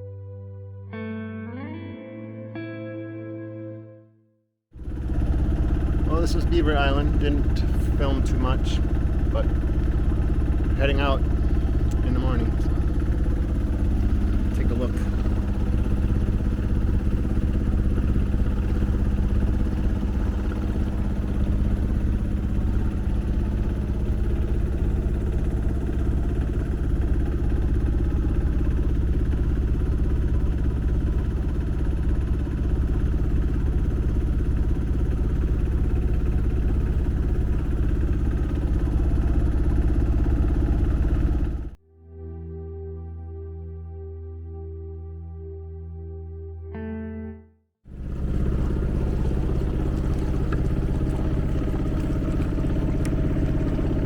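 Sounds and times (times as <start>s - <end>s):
boat engine rumbling: 4.8s - 43.3s, 47.9s - 54.0s.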